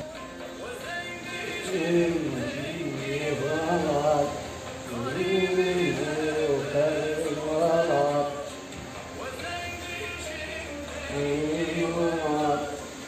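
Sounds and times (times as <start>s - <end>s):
person singing slow song: 0.0s - 13.0s.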